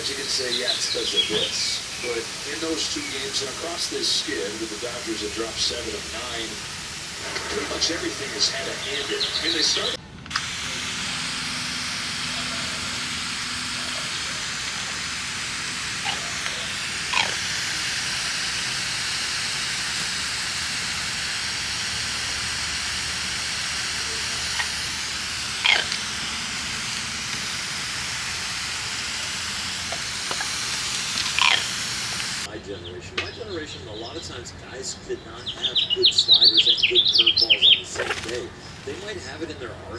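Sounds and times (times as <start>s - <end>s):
shower water spraying: 0.0s - 32.6s, 35.6s - 39.9s
parrot calls: 0.0s - 39.9s.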